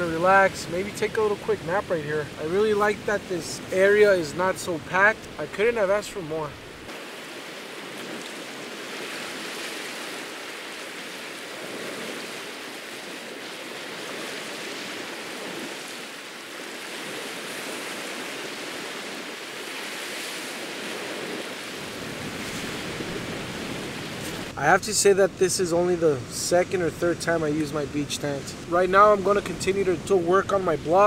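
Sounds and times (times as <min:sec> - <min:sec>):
ocean waves on beach: 0:00.0 - 0:31.0.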